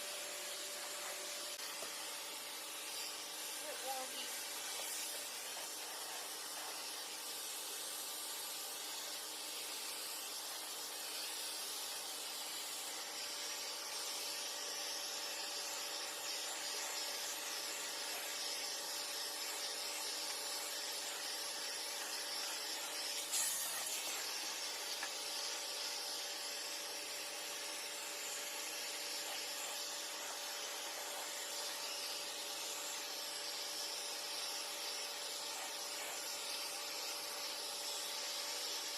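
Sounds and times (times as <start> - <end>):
vacuum cleaner suction hiss: 0.0 - 38.9.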